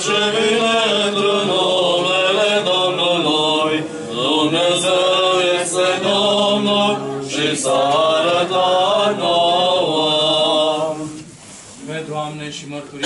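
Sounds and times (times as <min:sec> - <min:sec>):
voices singing liturgical chant: 0:00.0 - 0:11.5.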